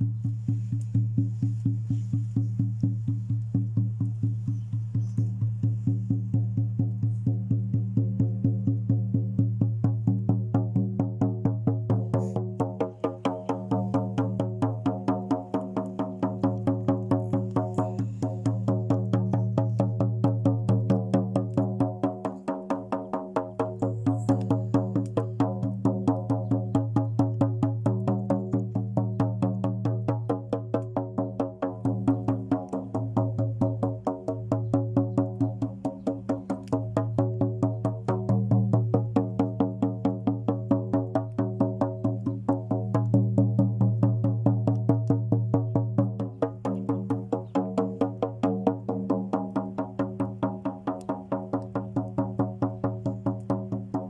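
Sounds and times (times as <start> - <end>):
fast tapping beat: 10.0 - 54.0.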